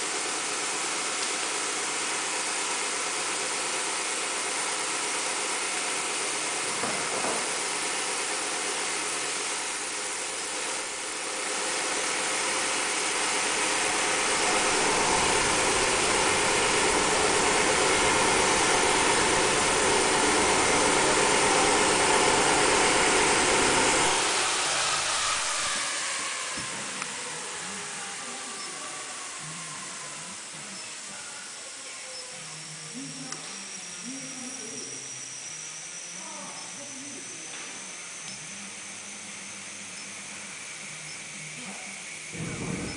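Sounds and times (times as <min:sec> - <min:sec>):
machine humming and hissing: 0:00.0 - 0:42.9.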